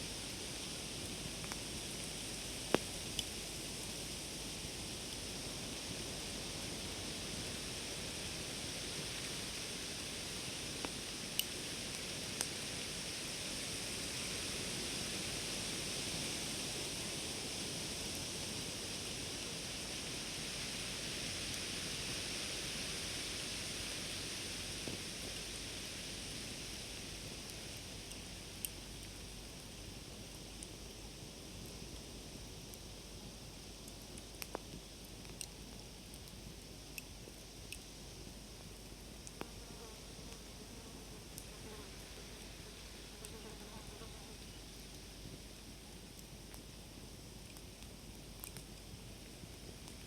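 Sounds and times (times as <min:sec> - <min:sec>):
campfire hissing: 0:00.0 - 0:50.0.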